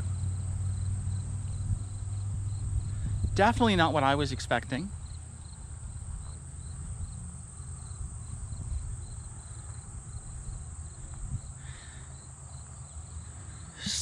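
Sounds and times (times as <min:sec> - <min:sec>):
cricket pulsing: 0:00.0 - 0:14.0
high insect trill: 0:00.0 - 0:14.0.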